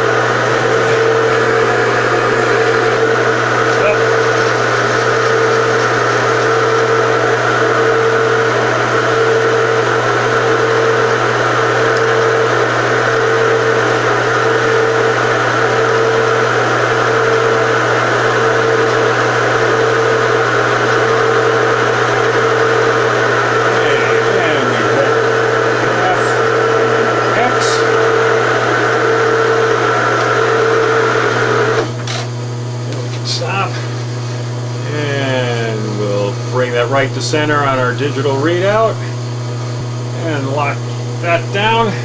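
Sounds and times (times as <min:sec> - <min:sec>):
milling machine humming and whining: 0:00.0 - 0:42.0.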